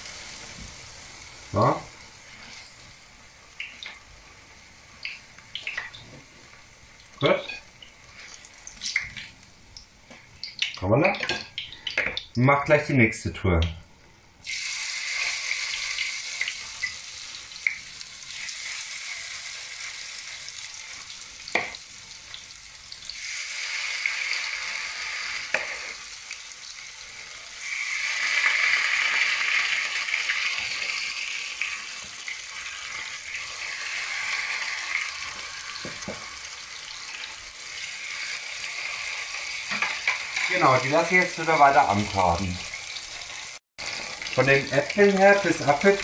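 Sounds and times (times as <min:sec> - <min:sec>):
batter sizzling in hot oil: 0:00.0 - 0:12.2, 0:14.4 - 0:46.0.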